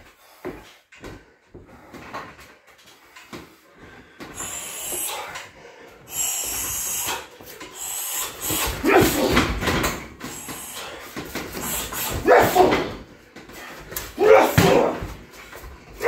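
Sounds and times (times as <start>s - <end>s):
man breathing hard: 0.0s - 14.2s.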